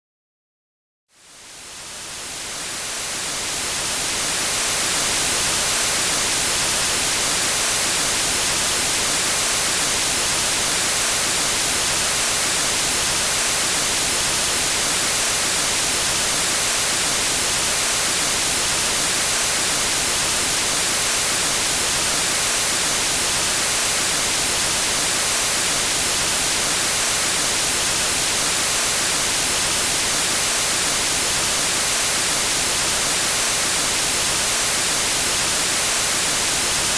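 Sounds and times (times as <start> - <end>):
steady white noise hiss: 1.2 - 36.9.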